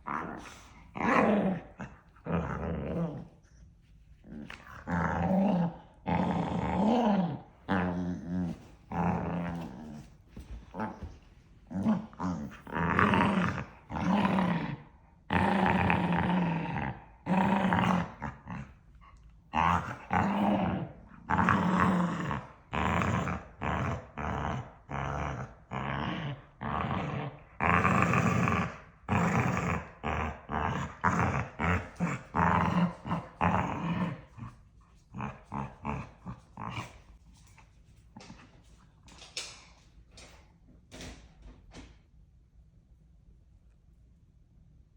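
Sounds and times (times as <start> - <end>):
dogs growling and yapping: 0.0 - 37.5.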